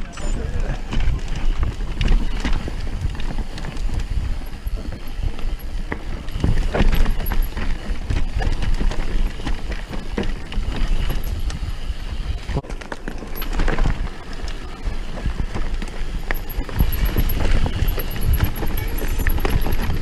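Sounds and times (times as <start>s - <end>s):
wind rumble on microphone: 0.0s - 12.6s, 13.4s - 20.0s
bike knocking and rattling: 0.0s - 20.0s
bike tyres rolling over stones: 0.0s - 20.0s.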